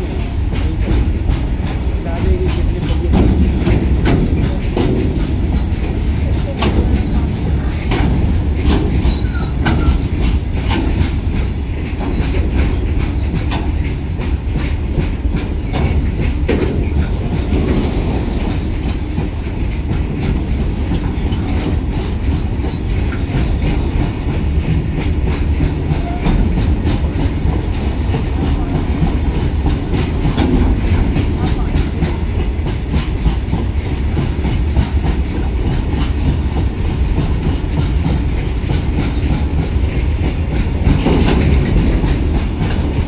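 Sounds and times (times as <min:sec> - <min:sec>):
freight train rumbling past: 0:00.0 - 0:43.0
wheels clacking over rail joints: 0:00.0 - 0:43.0.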